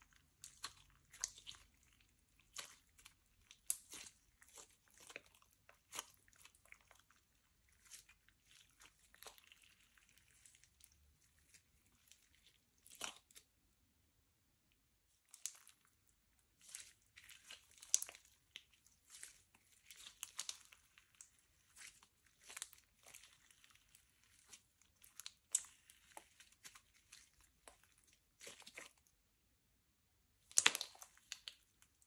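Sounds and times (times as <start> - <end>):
slime clicking and crackling: 0.0 - 13.5, 15.2 - 29.1, 30.5 - 32.0.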